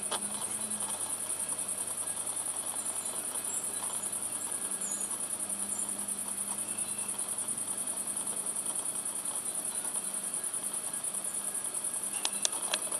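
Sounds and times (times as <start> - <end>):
faint low hum: 0.0 - 12.9
insect trilling: 0.0 - 12.9.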